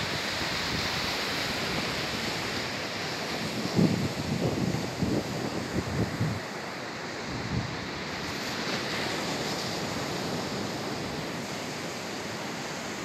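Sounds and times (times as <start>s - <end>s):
sea surf breaking on beach: 0.0s - 13.0s
wind blowing across microphone: 0.0s - 13.0s.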